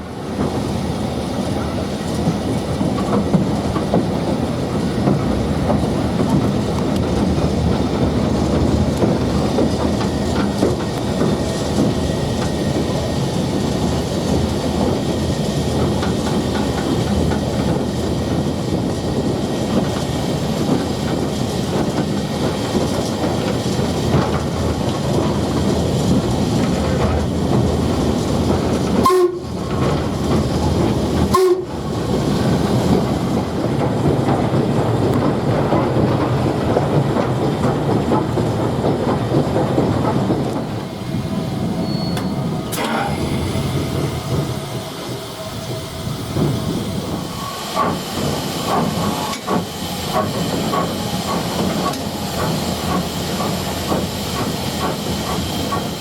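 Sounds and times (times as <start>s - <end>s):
train rumble: 0.0s - 56.0s
wheels clattering over rails: 1.4s - 56.0s.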